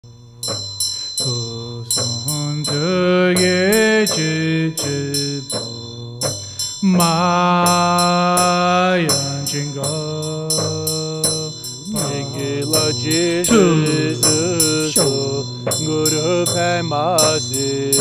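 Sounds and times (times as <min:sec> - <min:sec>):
high bell-like tone: 0:00.0 - 0:18.0
regular percussion strikes: 0:00.0 - 0:18.0
low voice chanting: 0:01.2 - 0:18.0.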